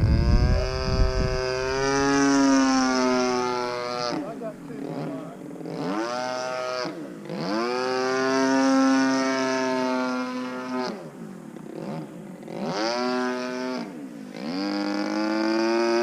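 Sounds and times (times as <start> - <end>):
model plane engine revving: 0.0 - 16.0.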